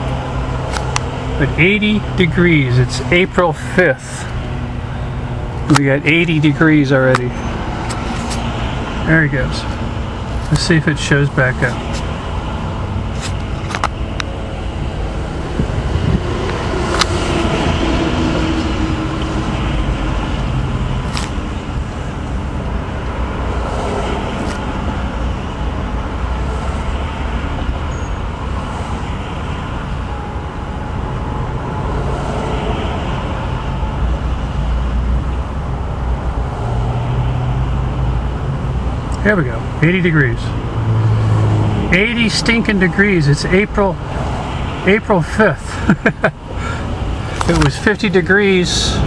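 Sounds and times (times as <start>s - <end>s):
traffic engines and tyres rumbling: 0.0s - 49.0s.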